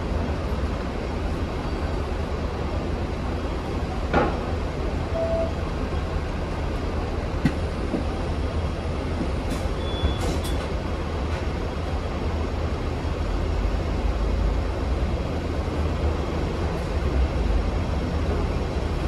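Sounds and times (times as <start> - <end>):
tram low rumble: 0.0 - 19.0.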